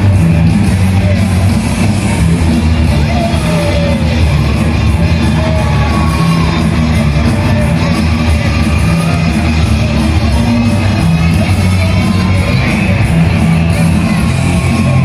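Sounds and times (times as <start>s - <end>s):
loud rock music with vocals: 0.0s - 15.0s.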